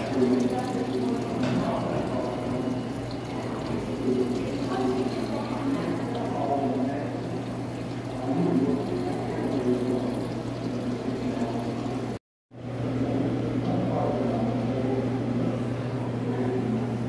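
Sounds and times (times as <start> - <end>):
background murmur: 0.0 - 12.2, 13.0 - 17.0.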